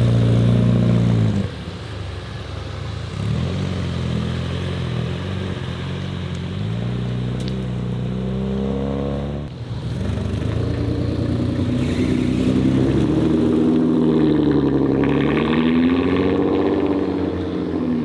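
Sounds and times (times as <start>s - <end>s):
car engine accelerating: 3.1s - 18.0s.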